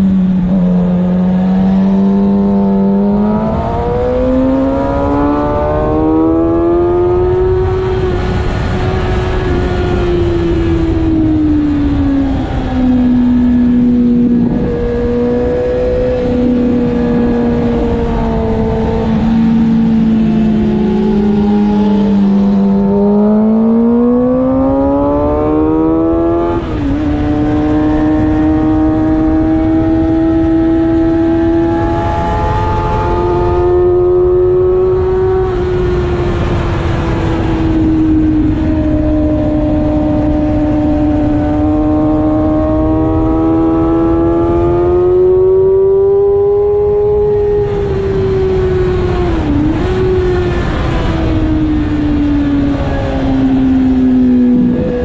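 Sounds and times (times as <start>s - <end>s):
motorcycle engine revving: 0.0s - 55.0s
wind rushing past microphone: 0.0s - 55.0s.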